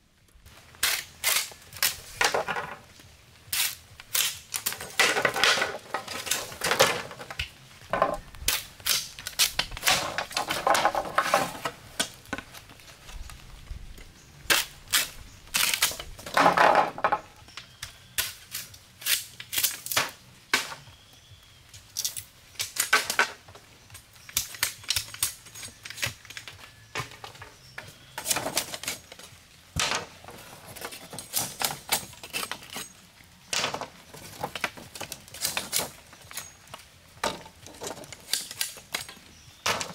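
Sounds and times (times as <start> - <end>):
bamboo knocking and cracking: 0.8 - 20.9, 21.7 - 32.9, 33.5 - 39.9.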